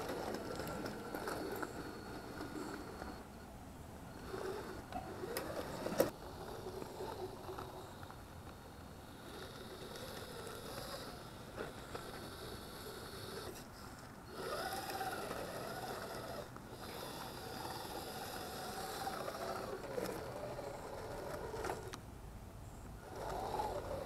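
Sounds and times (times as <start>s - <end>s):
electric motor whining: 0.0s - 3.4s, 4.1s - 22.0s, 23.0s - 24.0s.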